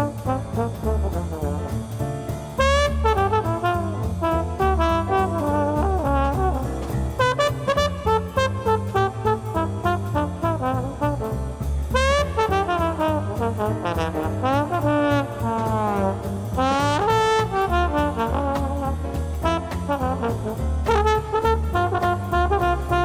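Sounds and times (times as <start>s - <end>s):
drums: 0.0s - 23.0s
piano: 0.0s - 23.0s
string bass: 0.0s - 23.0s
trombone: 0.0s - 23.0s
trumpet: 0.0s - 23.0s.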